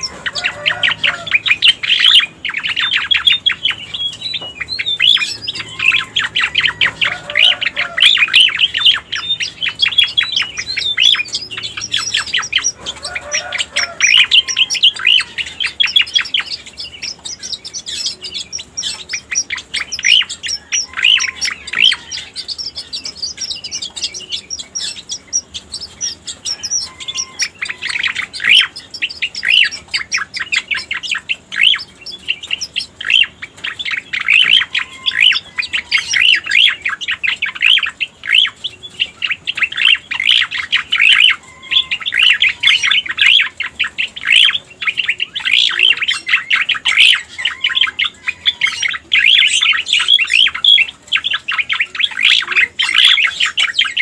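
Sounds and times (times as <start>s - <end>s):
rapid high bird chirps: 0.0s - 54.0s.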